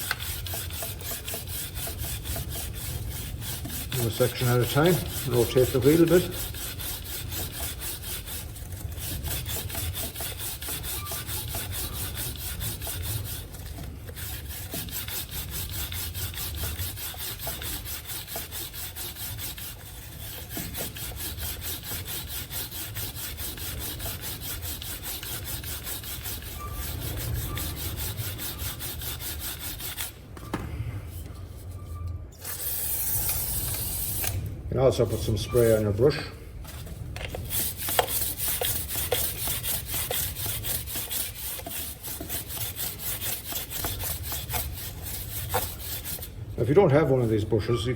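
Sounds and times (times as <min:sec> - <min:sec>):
brush scrubbing a chain: 0:00.0 - 0:30.2, 0:32.4 - 0:47.9.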